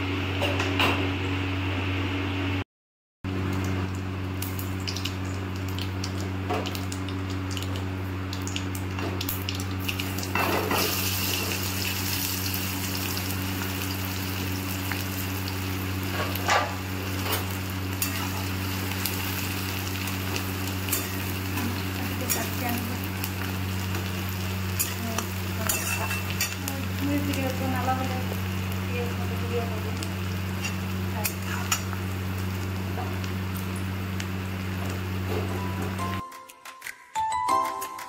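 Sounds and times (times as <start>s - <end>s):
hot oil sizzling: 3.4s - 36.2s.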